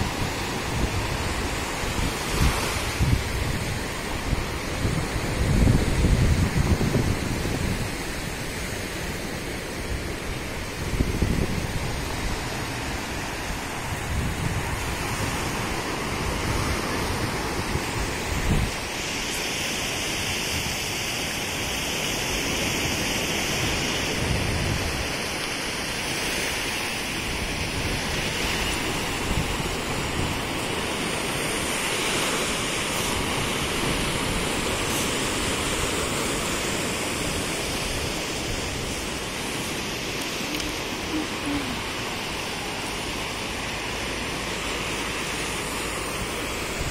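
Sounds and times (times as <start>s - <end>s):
wind buffeting microphone: 0.0s - 21.0s, 21.6s - 46.9s
waves breaking on beach: 0.0s - 46.9s.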